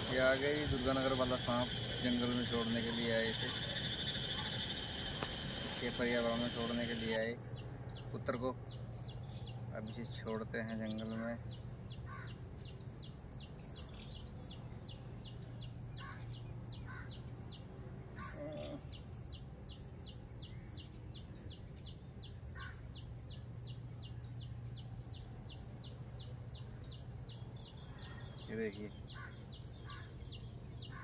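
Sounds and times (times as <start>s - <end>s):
small bird chirping: 0.0s - 31.0s.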